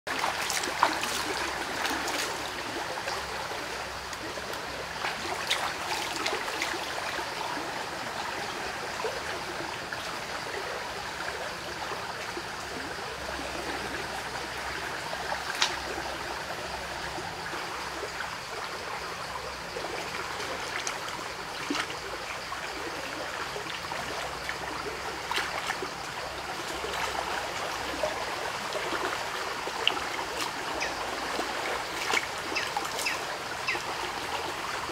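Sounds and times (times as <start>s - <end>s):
creek water running: 0.0s - 34.9s.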